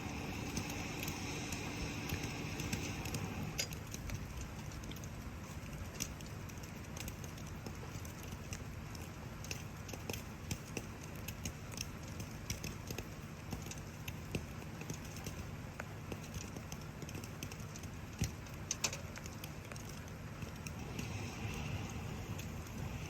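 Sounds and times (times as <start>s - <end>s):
campfire crackling and popping: 0.0s - 23.0s
rain hiss: 0.0s - 23.0s.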